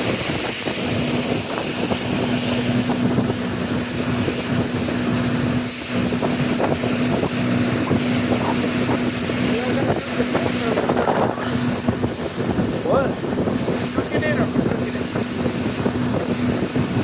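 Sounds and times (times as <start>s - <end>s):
motorboat engine humming: 0.0s - 17.0s
water noise: 0.0s - 17.0s
wind on microphone: 0.0s - 17.0s.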